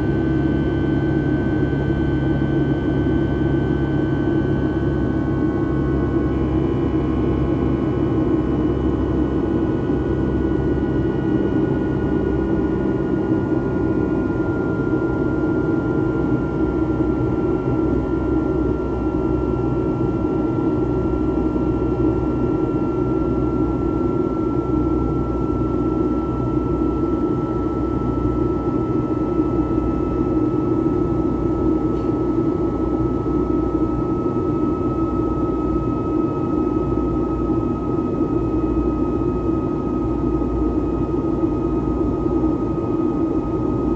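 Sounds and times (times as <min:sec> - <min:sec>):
aircraft cabin engine noise: 0:00.0 - 0:43.9.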